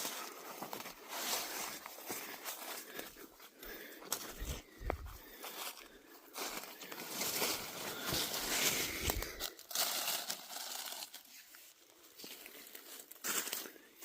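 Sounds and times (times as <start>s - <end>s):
dry leaves crackling and rustling: 0.0s - 2.9s, 5.2s - 13.8s.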